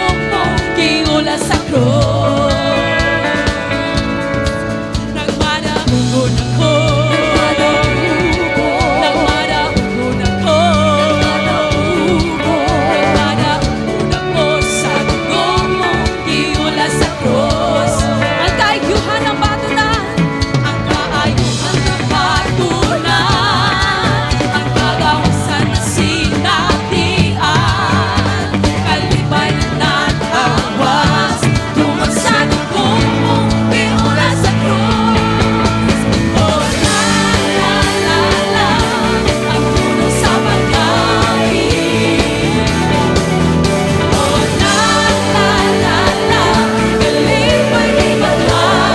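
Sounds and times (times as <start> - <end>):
bass line: 0.0 - 48.9
drums: 0.0 - 48.9
lead singer singing: 0.0 - 48.9
worship band playing: 0.0 - 48.9.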